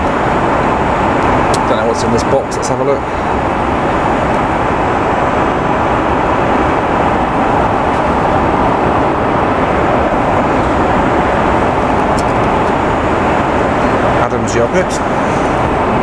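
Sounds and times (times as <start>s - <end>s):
aircraft cabin engine and airflow noise: 0.0s - 16.0s.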